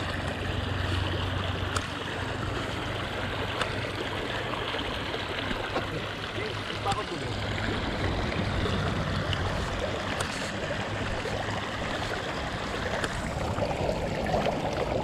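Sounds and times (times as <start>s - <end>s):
creek flowing over stones: 0.0s - 15.0s.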